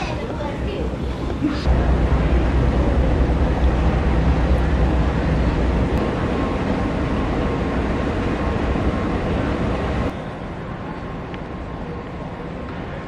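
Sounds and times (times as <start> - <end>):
metro station rumble and hiss: 0.0 - 13.0.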